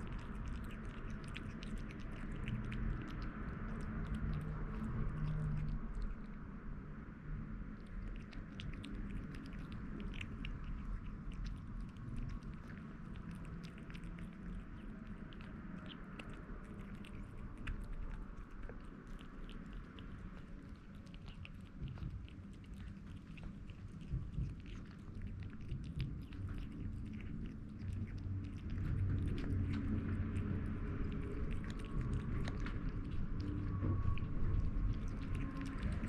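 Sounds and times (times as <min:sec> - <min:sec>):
kitten chewing wet food: 0:00.0 - 0:36.0.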